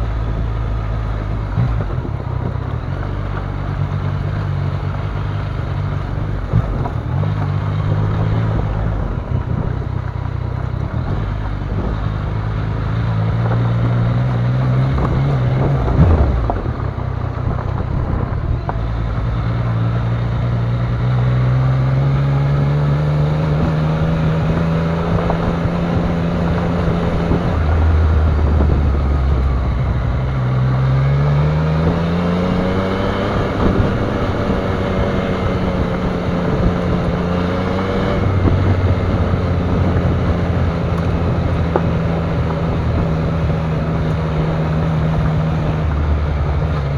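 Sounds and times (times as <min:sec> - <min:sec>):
wind on microphone: 0:00.0 - 0:19.9, 0:21.2 - 0:46.9
motorcycle engine revving: 0:00.0 - 0:46.9.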